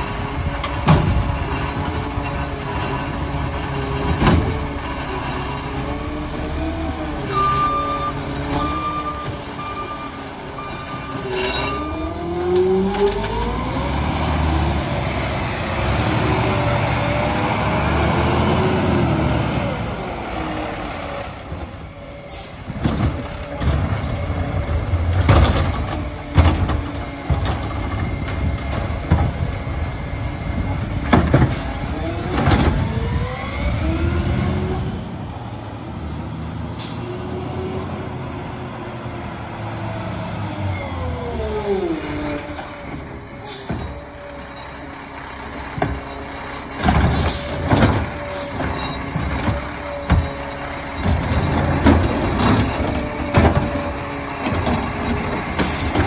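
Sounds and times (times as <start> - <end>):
diesel engine revving: 0.0 - 10.6, 11.5 - 56.0.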